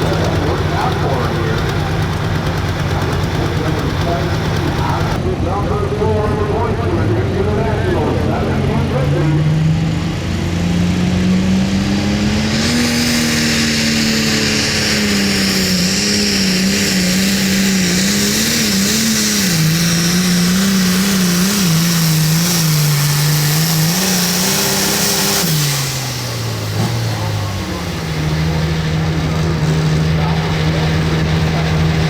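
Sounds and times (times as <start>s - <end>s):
tractor diesel engine at high revs: 0.0s - 32.0s.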